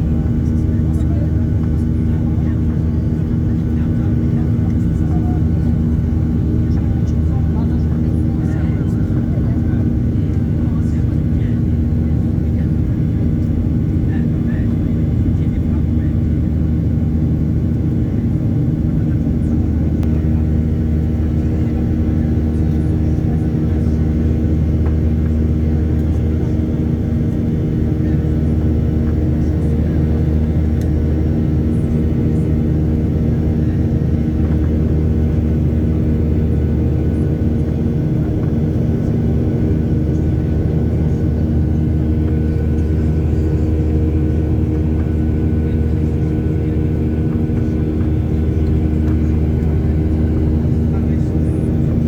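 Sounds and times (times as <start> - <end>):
airliner cabin engine drone: 0.0 - 52.0.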